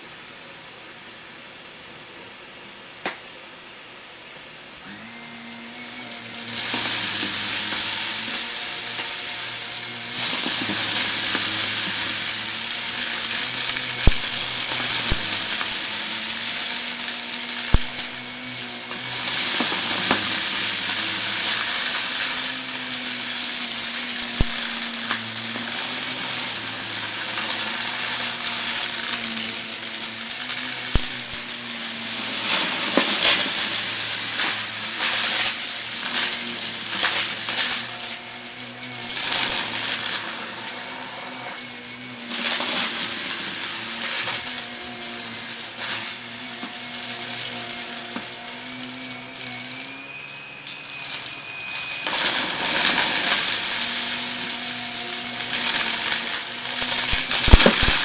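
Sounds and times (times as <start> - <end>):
vacuum cleaner crackling hiss: 4.7 - 58.0.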